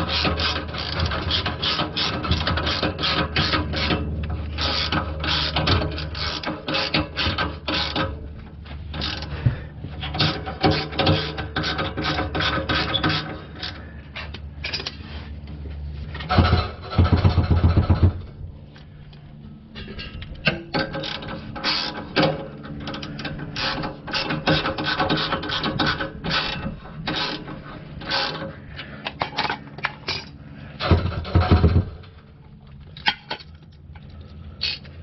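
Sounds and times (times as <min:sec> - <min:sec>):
dense rattling with low rumble: 0:00.0 - 0:35.0.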